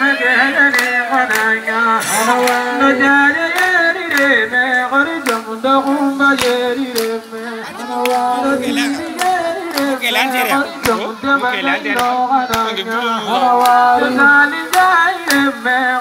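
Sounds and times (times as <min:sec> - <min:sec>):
person singing into a microphone: 0:00.0 - 0:16.0.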